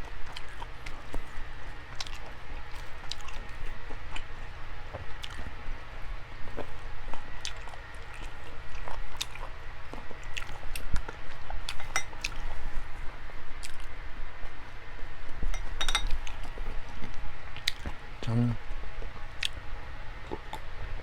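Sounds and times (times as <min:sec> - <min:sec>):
person chewing food with wet smacking: 0:00.0 - 0:12.8, 0:13.6 - 0:14.6, 0:15.5 - 0:18.0, 0:19.0 - 0:19.6, 0:20.3 - 0:20.7.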